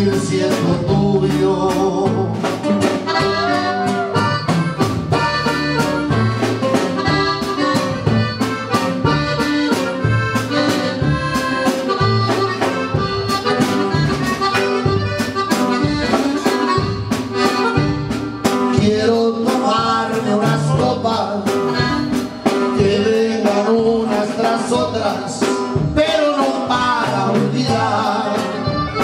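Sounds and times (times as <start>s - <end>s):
bass line: 0.0s - 29.0s
steady drum beat: 0.0s - 29.0s
button accordion melody: 2.6s - 29.0s.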